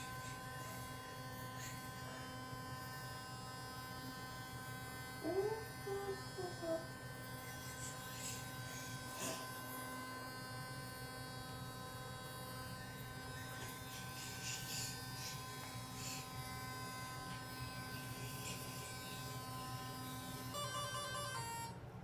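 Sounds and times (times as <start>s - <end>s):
electric toothbrush buzzing: 0.0s - 22.0s.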